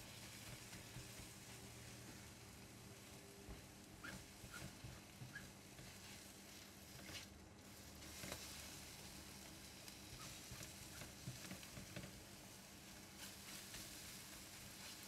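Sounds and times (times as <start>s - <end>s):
eggs sizzling in a wok: 0.0s - 15.0s.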